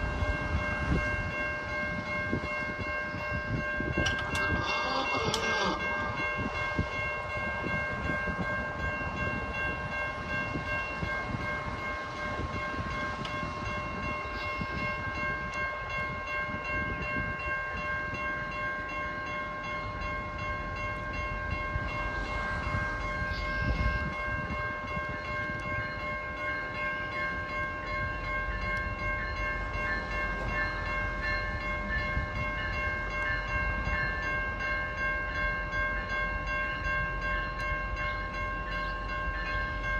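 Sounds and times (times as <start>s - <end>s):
diesel train rumble: 0.0s - 39.9s.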